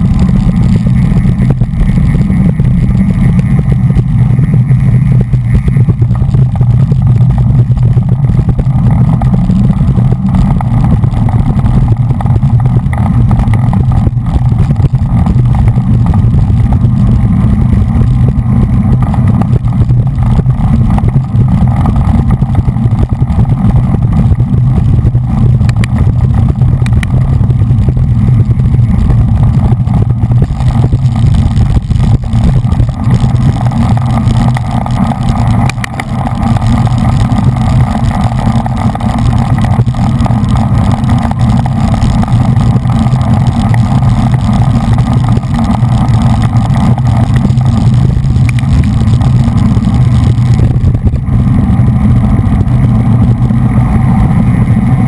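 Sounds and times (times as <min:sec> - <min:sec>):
tyre and road noise: 0:00.0 - 0:55.0
wind buffeting microphone: 0:00.0 - 0:55.0.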